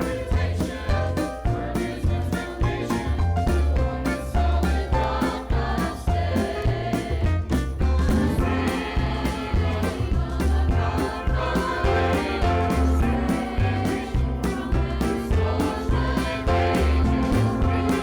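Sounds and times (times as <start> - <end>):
choir singing a hymn: 0.0 - 18.0
deep bass line: 0.0 - 18.0
instrumental accompaniment with beat: 0.0 - 18.0.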